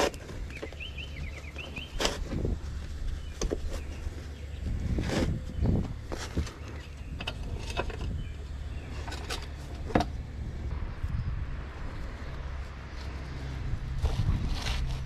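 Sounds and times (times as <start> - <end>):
low rumble: 2.2 - 15.0.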